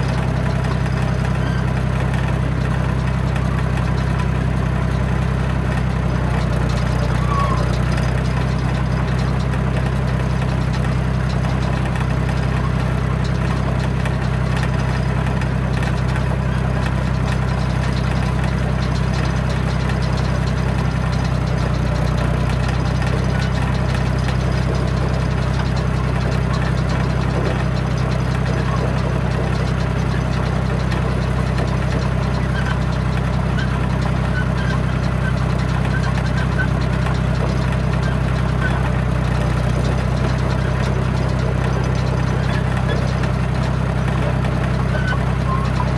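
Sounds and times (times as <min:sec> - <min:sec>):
dozer diesel engine running: 0:00.0 - 0:45.9.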